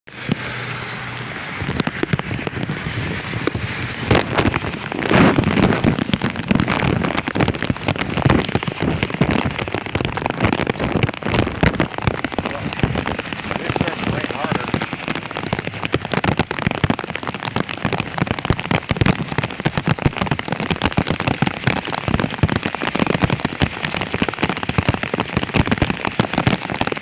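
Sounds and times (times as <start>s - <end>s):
rain pattering: 0.1s - 27.0s.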